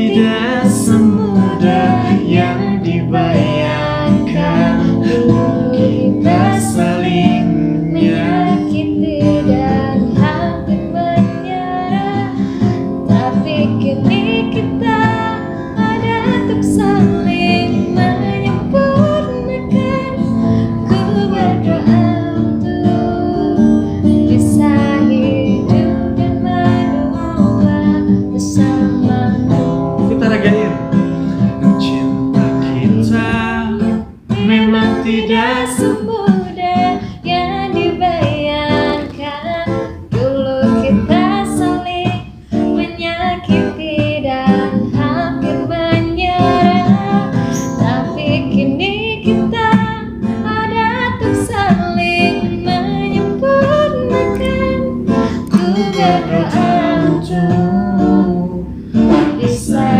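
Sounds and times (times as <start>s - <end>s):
acoustic guitar: 0.0s - 59.9s
woman and man singing: 0.0s - 59.9s.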